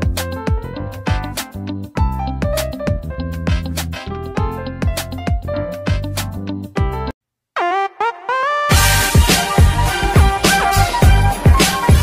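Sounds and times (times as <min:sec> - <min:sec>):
upbeat funk music with drums: 0:00.0 - 0:07.1, 0:08.7 - 0:12.0.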